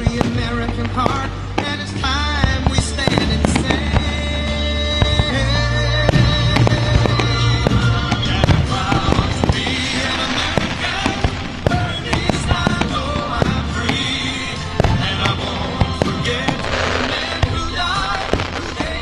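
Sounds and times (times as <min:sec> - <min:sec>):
fireworks bursting and crackling: 0:00.0 - 0:19.0
song with instruments: 0:00.0 - 0:19.0.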